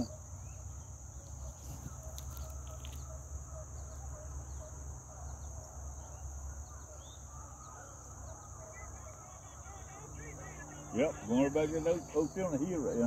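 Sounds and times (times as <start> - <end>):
faint animal calls: 0.0 - 13.0
high insect drone: 0.0 - 13.0.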